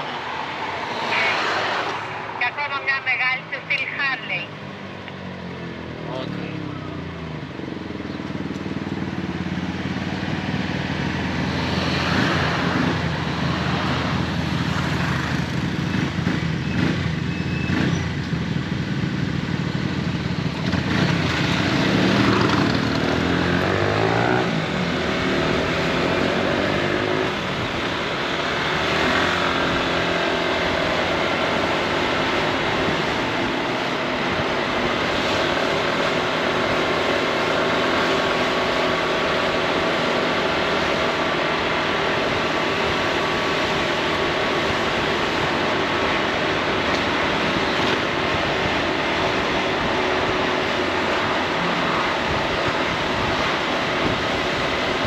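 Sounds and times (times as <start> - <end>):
wind and road noise: 0.0 - 55.0
scooter engine running: 6.1 - 55.0.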